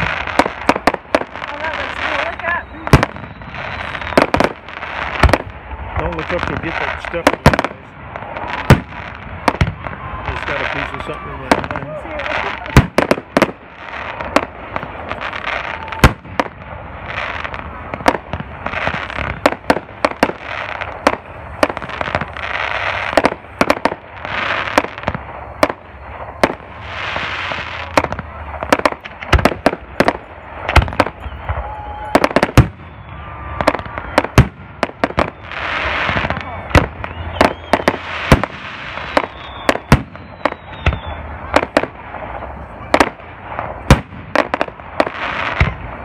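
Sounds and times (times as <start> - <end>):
fireworks bangs: 0.0 - 46.0
fireworks crackling hiss: 0.0 - 46.0.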